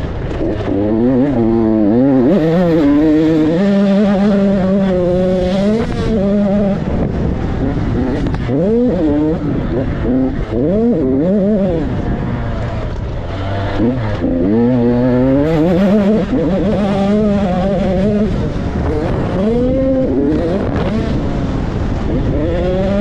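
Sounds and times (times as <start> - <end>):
motocross bike engine revving: 0.0 - 23.0.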